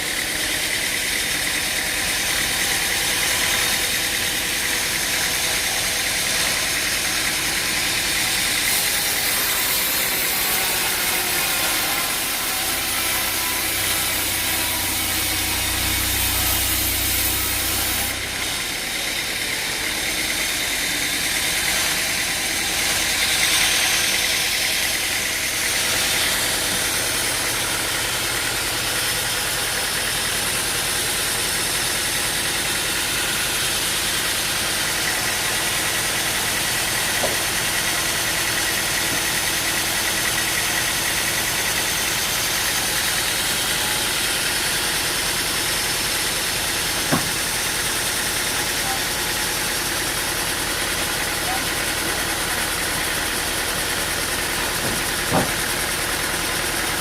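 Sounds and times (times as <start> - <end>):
machine engine running: 10.0 - 57.0.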